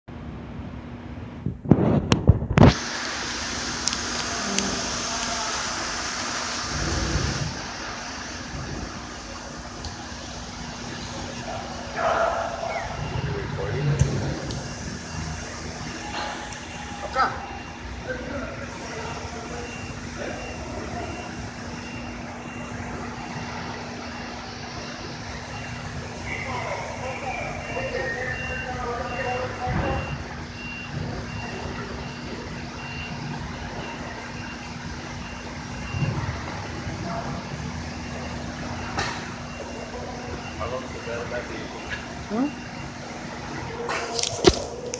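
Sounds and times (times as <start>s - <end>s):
vehicle rumble and hiss: 0.1s - 44.9s.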